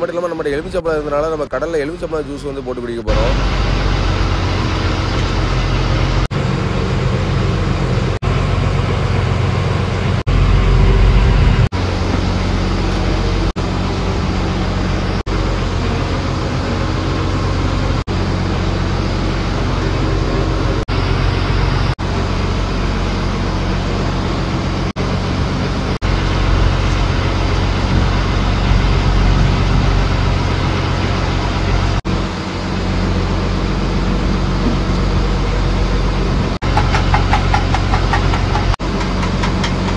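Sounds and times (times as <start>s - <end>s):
boat diesel engine drone: 0.0s - 39.9s
boat rushing through water: 0.0s - 39.9s.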